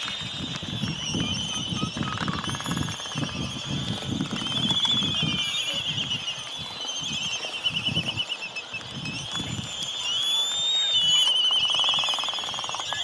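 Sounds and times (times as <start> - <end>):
birds chirping and trilling: 0.6 - 10.2, 10.8 - 13.0.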